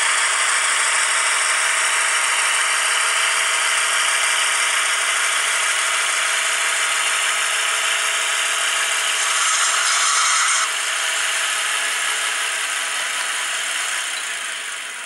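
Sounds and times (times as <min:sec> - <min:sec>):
model locomotive whirring rattle: 0:00.0 - 0:15.0.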